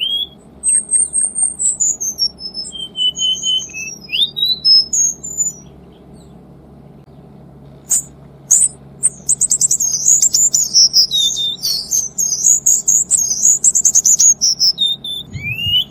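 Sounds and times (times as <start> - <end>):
bird singing rapid high notes: 0.0 - 6.4, 7.8 - 15.9
steady low hum: 0.0 - 15.9.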